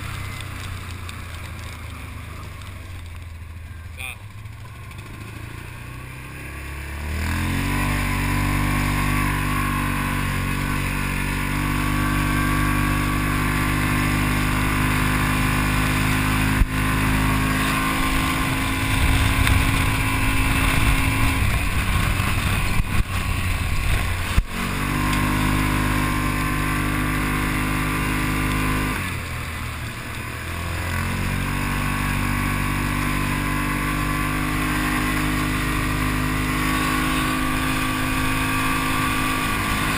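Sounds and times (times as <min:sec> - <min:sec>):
off-road vehicle engine: 0:00.0 - 0:39.9.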